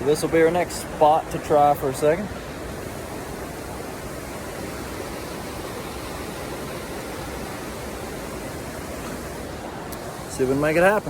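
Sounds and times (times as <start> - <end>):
creek waterfall rushing: 0.0 - 11.0.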